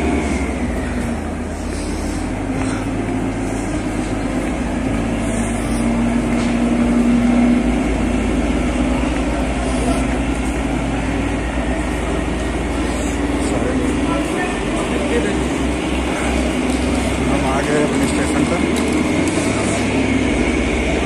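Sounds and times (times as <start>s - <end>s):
train engine idling: 0.0s - 21.0s.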